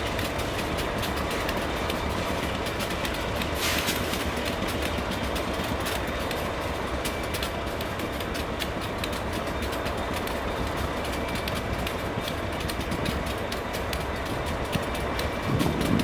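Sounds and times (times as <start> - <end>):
freight train rumbling: 0.0 - 16.0
wheel clicks over track: 0.0 - 16.0.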